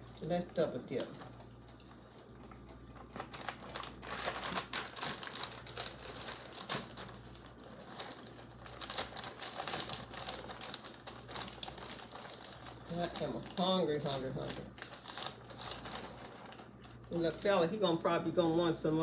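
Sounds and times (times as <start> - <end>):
plastic bag crinkling: 3.0 - 19.0.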